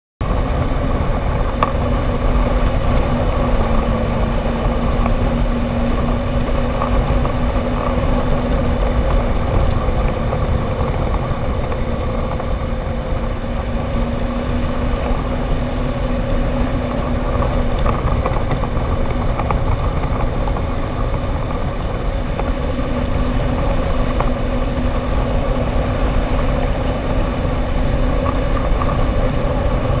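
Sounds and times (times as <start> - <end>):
heavy low rumble: 0.2 - 30.0
jet ski engine running: 0.2 - 30.0.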